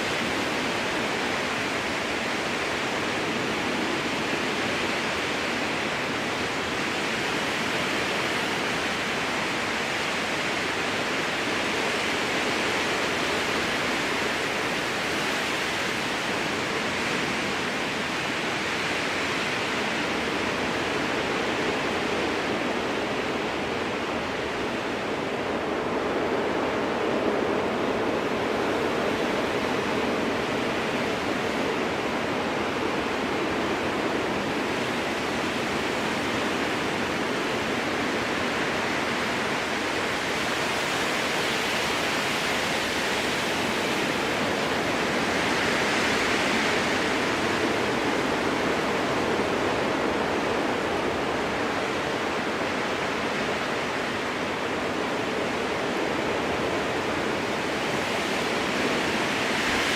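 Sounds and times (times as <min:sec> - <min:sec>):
strong wind through trees: 0:00.0 - 0:59.9.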